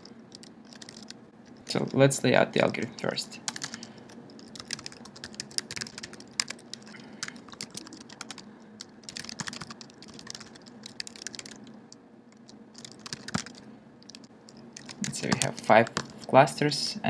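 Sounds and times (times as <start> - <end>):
computer keyboard typing: 0.0 - 2.0, 2.6 - 16.3.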